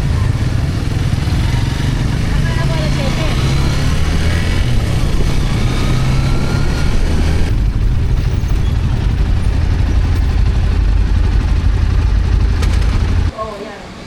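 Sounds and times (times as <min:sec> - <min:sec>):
motorcycle engine running: 0:00.0 - 0:13.3
wind and road noise: 0:00.0 - 0:13.4.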